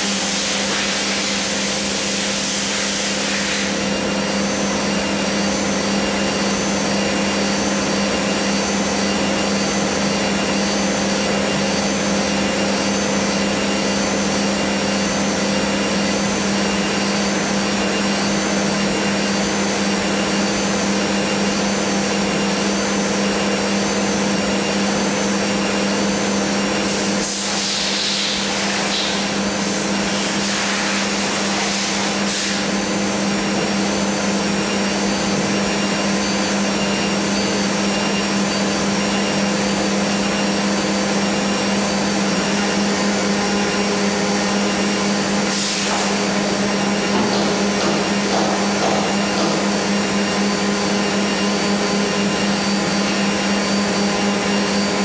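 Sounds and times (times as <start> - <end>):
milling machine drone: 0.0 - 55.0.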